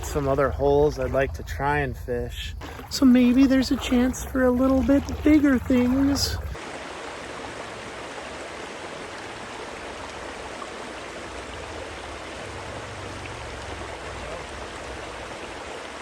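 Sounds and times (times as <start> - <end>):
creek water running over shallows: 0.0 - 16.0.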